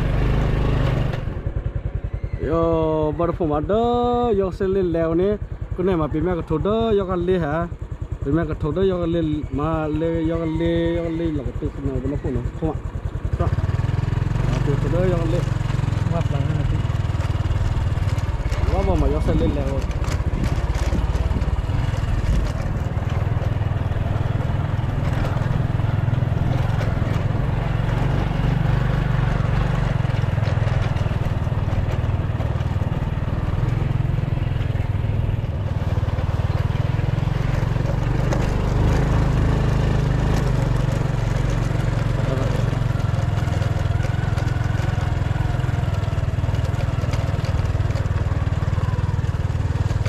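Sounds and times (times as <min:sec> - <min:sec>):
small motorbike engine running: 0:00.0 - 0:50.0.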